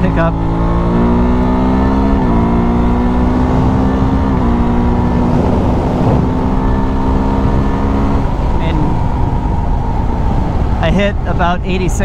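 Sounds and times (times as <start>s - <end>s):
motorcycle engine accelerating: 0.0s - 11.3s.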